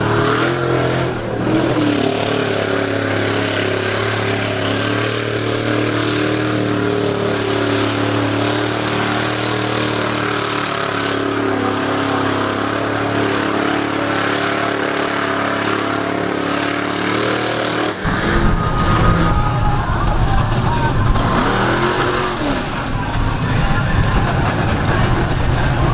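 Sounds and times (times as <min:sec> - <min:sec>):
truck engine running at high revs: 0:00.0 - 0:25.9.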